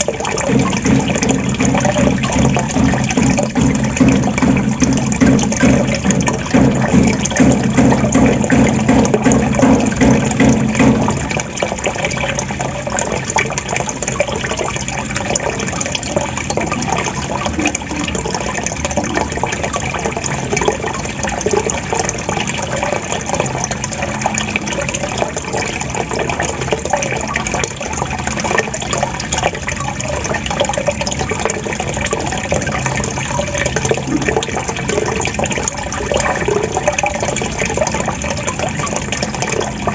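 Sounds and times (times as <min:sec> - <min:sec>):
water gurgling and trickling: 0:00.0 - 0:39.9.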